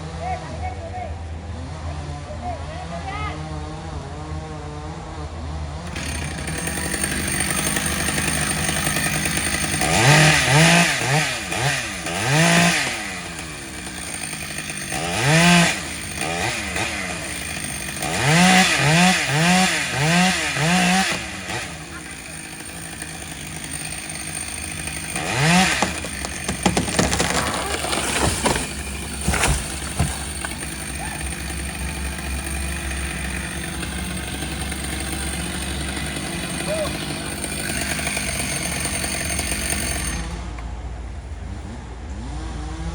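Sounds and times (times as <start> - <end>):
chainsaw engine revving: 5.8 - 40.6.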